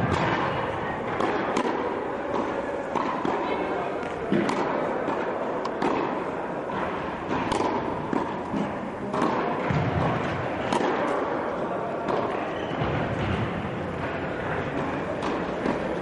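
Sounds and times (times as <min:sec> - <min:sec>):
racket hitting tennis ball: 0:00.0 - 0:16.0.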